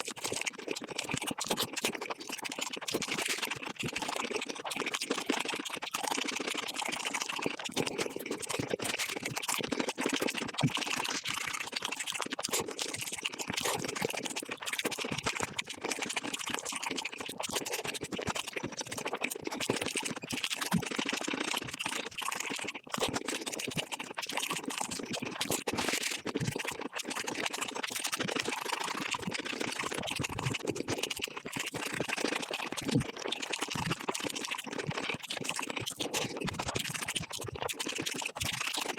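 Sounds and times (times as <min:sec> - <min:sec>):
sped-up crunching and chewing: 0:00.0 - 0:38.9.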